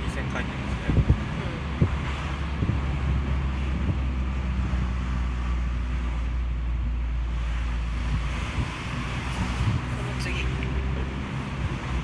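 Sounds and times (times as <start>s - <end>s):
car exhaust drone: 0.0s - 12.0s
road noise: 0.0s - 12.0s
wind noise: 0.0s - 12.0s.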